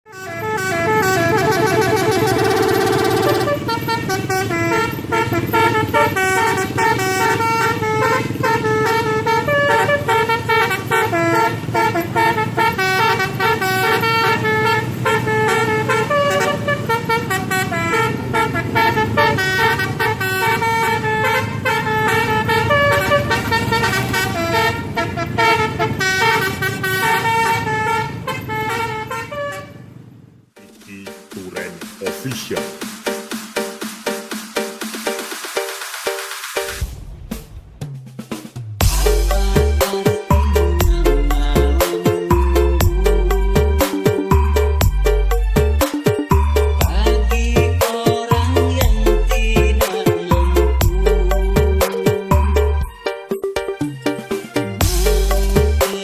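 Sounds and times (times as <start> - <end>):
multi-tone bus horn tune: 0.1 - 30.1, 38.8 - 56.0.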